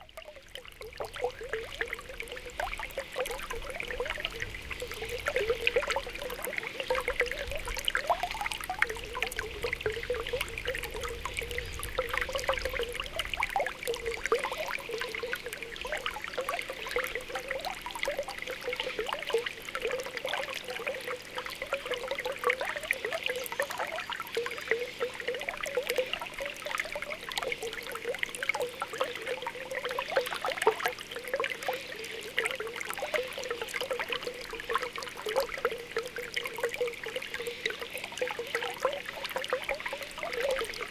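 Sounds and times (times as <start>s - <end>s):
spring water bubbling: 0.0s - 40.9s.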